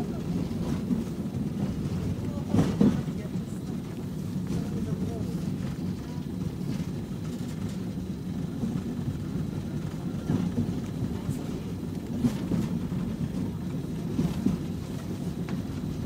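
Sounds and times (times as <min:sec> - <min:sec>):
tram rumbling on track: 0:00.0 - 0:16.0.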